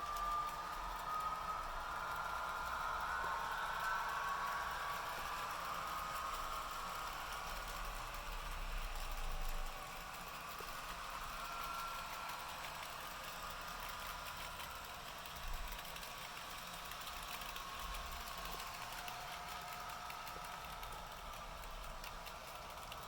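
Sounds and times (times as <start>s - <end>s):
model train motor whine: 0.0s - 23.0s.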